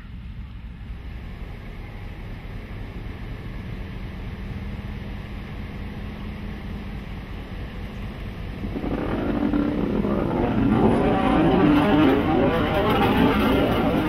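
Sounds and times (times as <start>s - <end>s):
diesel locomotive engine working: 0.0s - 14.0s
train wheels rumbling on track: 0.0s - 14.0s.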